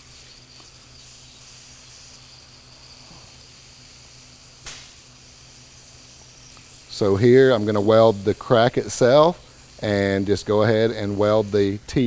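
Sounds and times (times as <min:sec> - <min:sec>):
faint steady hum: 0:00.0 - 0:12.0
hot-air welder hissing: 0:00.0 - 0:12.0.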